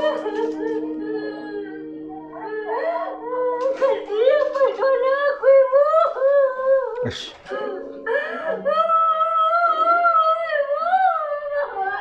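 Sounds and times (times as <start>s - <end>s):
woman wailing and sobbing: 0.0s - 12.0s.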